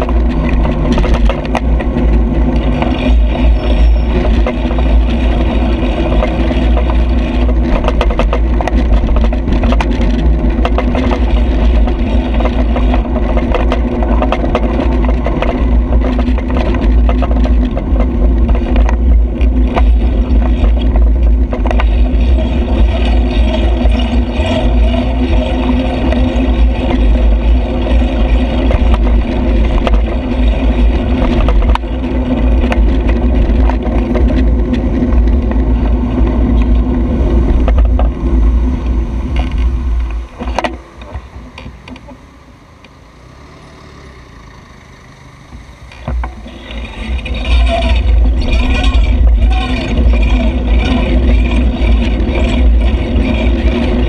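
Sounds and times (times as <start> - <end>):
wind noise on microphone: 0.0 - 42.3, 45.5 - 54.0
bicycle rattling: 0.0 - 54.0
motor traffic passing: 0.0 - 54.0.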